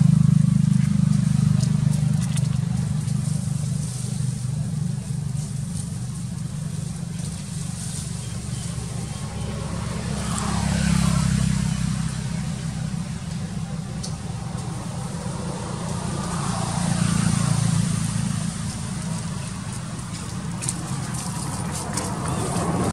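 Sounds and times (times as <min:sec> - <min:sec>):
traffic hum: 0:00.0 - 0:22.9.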